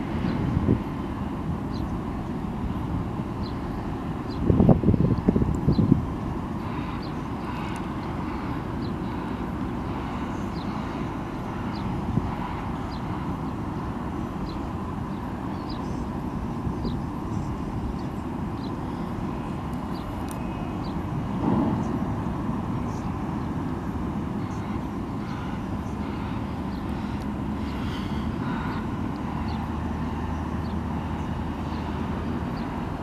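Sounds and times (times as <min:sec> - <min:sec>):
low harbour rumble: 0:00.0 - 0:33.0.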